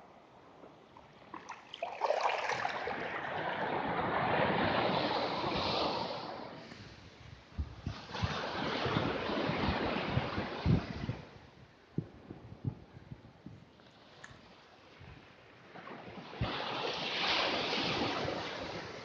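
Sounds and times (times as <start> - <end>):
surf washing over sand: 1.4 - 11.8, 13.9 - 19.0.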